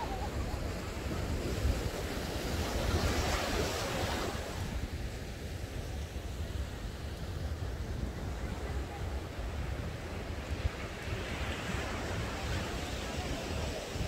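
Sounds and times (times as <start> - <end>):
ocean surf breaking on beach: 0.0 - 14.0
wind buffeting microphone: 0.0 - 14.0.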